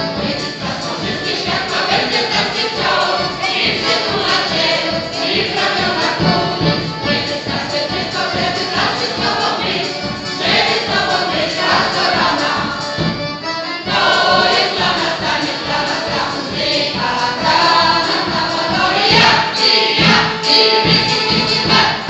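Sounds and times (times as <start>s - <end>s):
accordion: 0.0s - 22.0s
choir singing: 0.0s - 22.0s
keyboard with steady beat: 0.0s - 22.0s.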